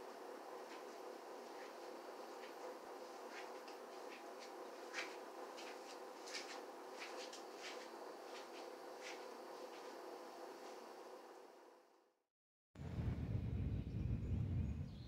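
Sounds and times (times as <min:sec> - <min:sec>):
low room hum: 0:00.0 - 0:12.1, 0:12.8 - 0:15.0.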